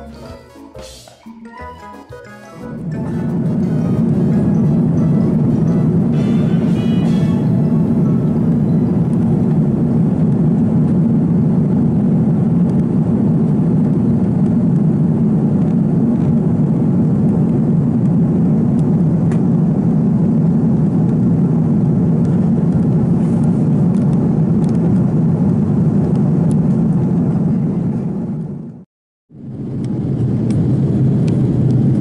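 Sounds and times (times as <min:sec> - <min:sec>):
airliner cabin engine rush: 0:02.5 - 0:28.8, 0:29.4 - 0:32.0.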